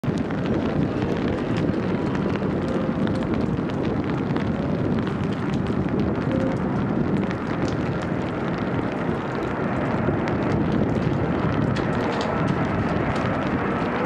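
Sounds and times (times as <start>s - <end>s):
distant jet engine rumble: 0.0s - 14.0s
wind noise on microphone: 0.0s - 14.0s.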